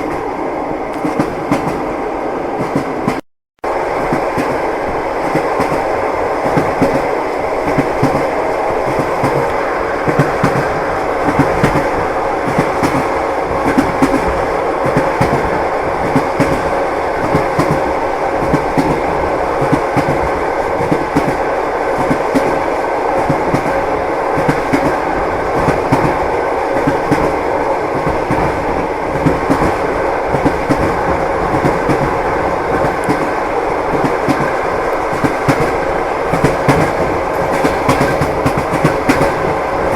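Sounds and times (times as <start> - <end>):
train running noise: 0.0 - 39.9
train wheels knocking on rails: 5.2 - 39.9.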